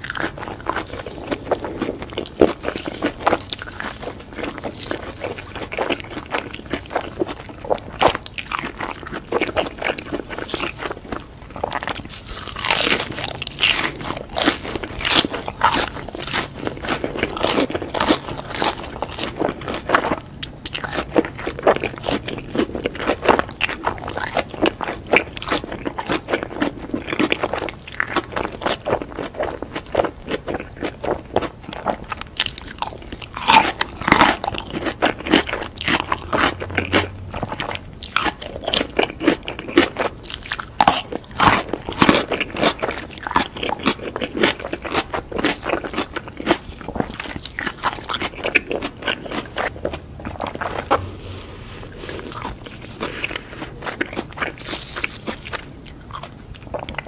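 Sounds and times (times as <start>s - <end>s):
crunching fried food: 0.0s - 57.0s.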